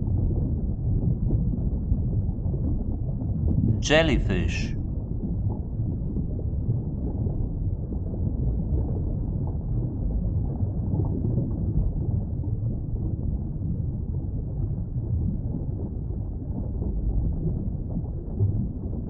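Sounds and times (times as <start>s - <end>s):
underwater ambient rumble: 0.0s - 19.0s.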